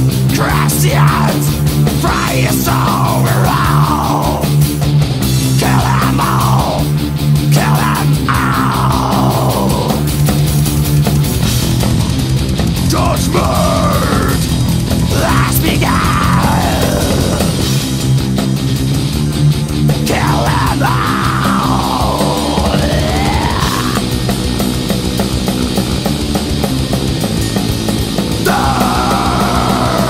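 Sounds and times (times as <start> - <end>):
black metal band playing: 0.0 - 30.0.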